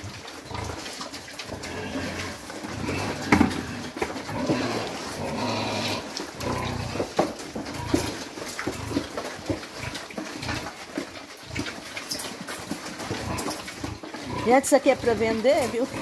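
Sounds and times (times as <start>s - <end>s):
pigs grunting and eating: 0.0s - 16.0s.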